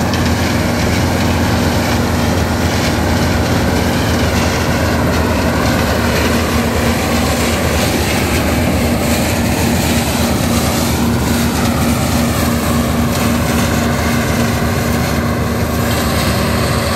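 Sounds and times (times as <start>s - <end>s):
combine harvester running: 0.0s - 16.9s.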